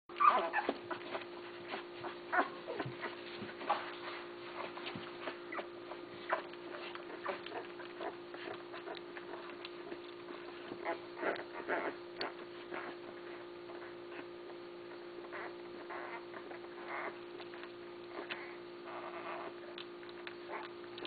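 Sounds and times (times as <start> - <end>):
puppies crying and squeaking: 0.1 - 21.0
steady low hum: 0.1 - 21.0.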